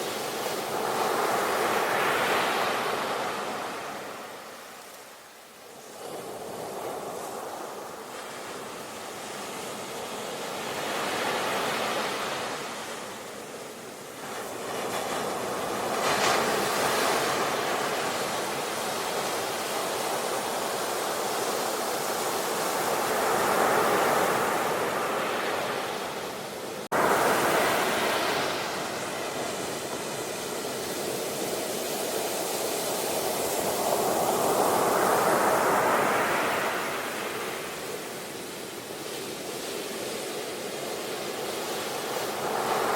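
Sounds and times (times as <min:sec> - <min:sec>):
ocean waves crashing on shore: 0:00.0 - 0:42.9.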